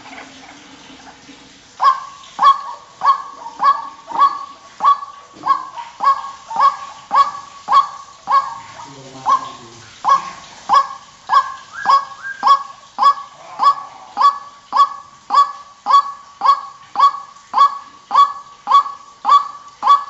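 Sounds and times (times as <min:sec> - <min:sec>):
bird harsh repeated call: 0:01.8 - 0:20.0.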